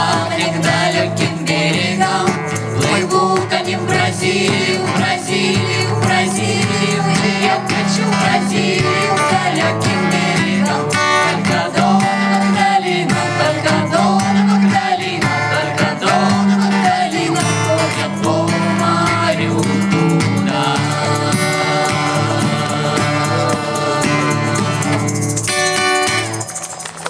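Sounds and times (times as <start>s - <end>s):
group singing folk song: 0.0s - 27.0s
strummed acoustic guitar: 0.0s - 27.0s.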